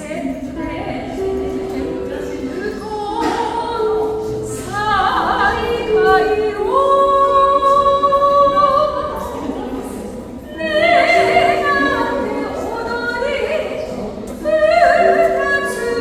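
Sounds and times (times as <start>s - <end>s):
person singing long notes: 0.4s - 16.0s.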